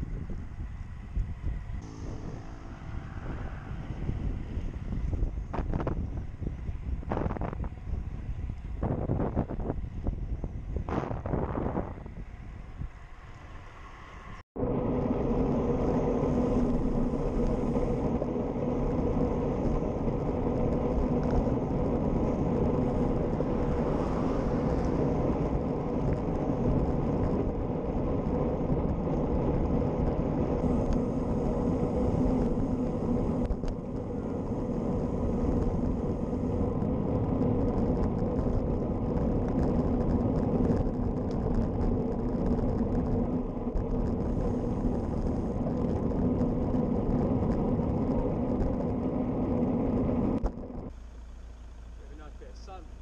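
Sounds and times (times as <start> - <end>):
constant low hum: 0.0 - 13.9, 14.6 - 53.0
wind rush and tyre noise: 0.0 - 52.8.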